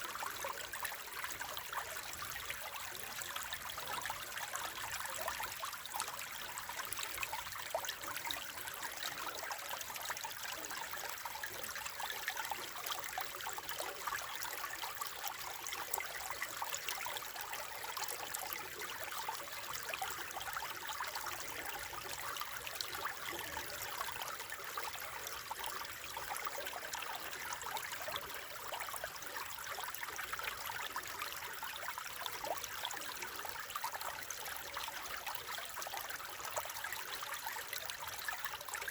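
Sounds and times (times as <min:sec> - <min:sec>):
stream babbling and trickling: 0:00.0 - 0:38.9.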